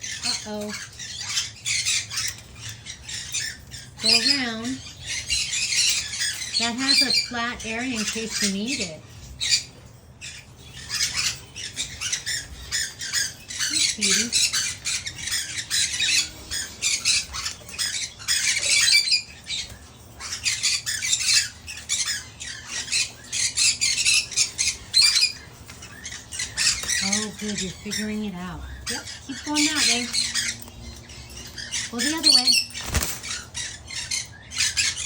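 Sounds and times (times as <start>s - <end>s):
parrots squawking and chattering: 0.0s - 35.0s.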